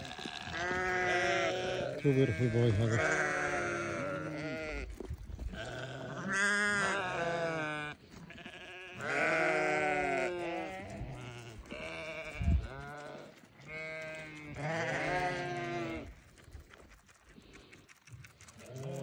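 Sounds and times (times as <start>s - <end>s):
sheep bleating: 0.0s - 16.1s.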